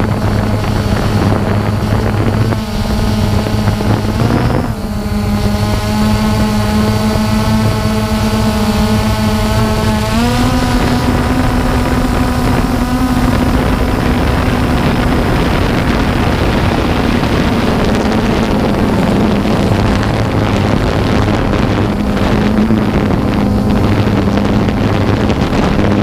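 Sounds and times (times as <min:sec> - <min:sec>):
drone propellers whirring: 0:00.0 - 0:26.0
wind rumbling: 0:00.0 - 0:26.0.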